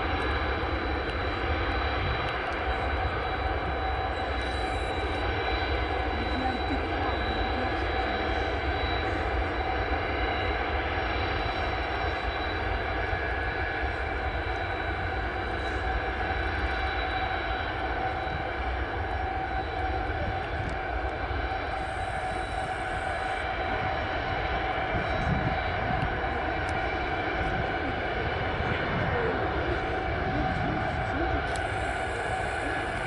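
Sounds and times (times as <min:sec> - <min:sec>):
jet engines whining: 0:00.0 - 0:33.0.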